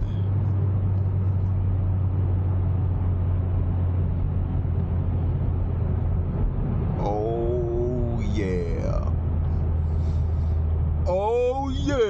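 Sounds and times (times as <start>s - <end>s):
car engine drone: 0.0s - 12.0s
road and tyre noise: 0.0s - 12.0s.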